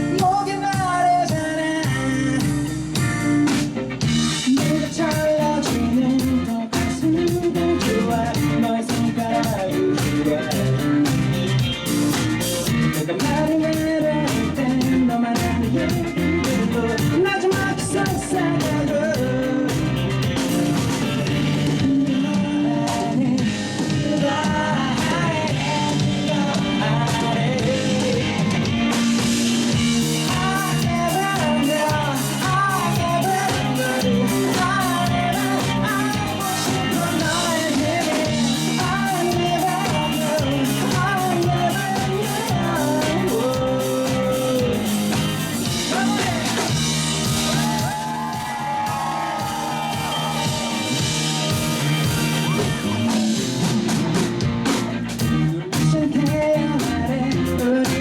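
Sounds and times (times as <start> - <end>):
person singing: 0.0 - 3.1, 4.2 - 54.2, 55.2 - 58.0
drum kit: 0.0 - 58.0
electric guitar: 0.0 - 58.0.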